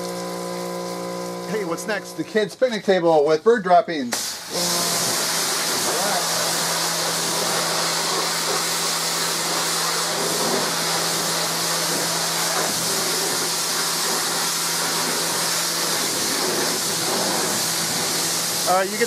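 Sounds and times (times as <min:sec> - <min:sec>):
water jet hissing: 0:00.0 - 0:02.2, 0:04.1 - 0:19.0
pressure washer motor humming: 0:00.0 - 0:02.6, 0:04.1 - 0:19.0.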